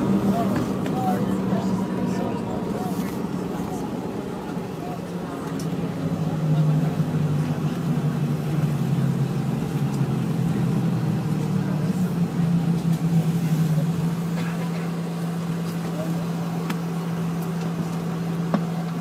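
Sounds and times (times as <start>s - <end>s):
jet engine hum: 0.0s - 19.0s.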